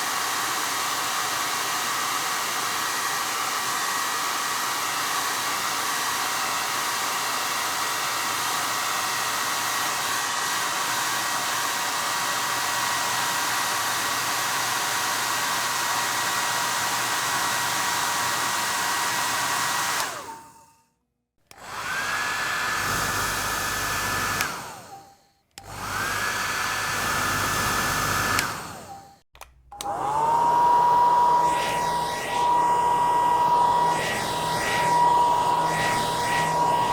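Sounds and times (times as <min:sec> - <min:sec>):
hair dryer blowing with whine: 0:00.0 - 0:20.8, 0:21.5 - 0:36.9.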